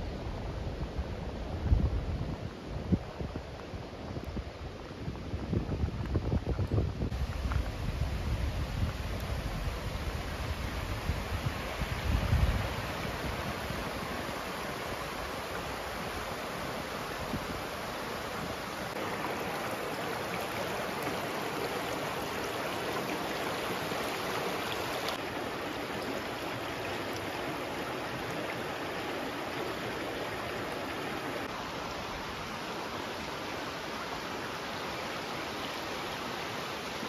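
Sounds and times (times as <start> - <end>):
river water babbling: 7.1 - 37.0.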